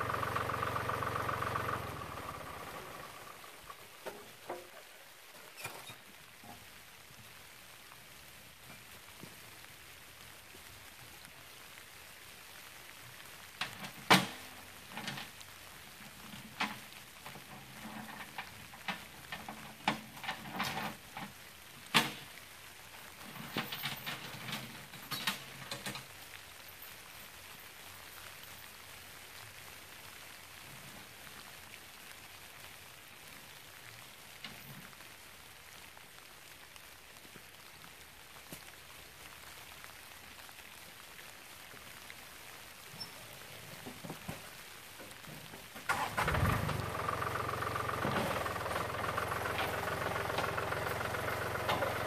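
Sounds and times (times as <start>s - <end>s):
light rain falling: 0.0s - 52.0s.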